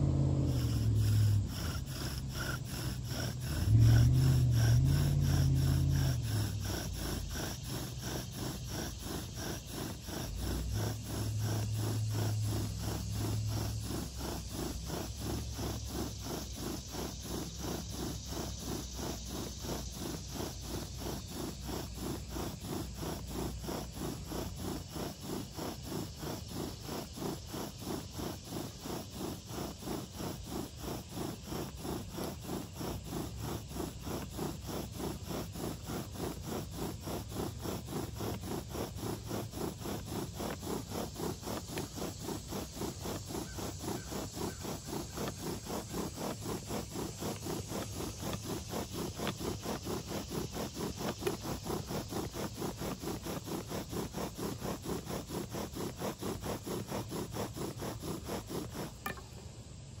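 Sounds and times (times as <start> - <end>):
bow drill rubbing and scraping wood: 0.0 - 60.0.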